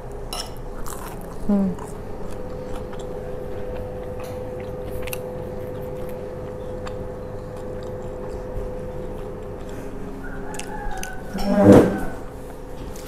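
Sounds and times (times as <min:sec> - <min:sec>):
steady hum: 0:00.0 - 0:13.0
chewing food: 0:00.7 - 0:11.4.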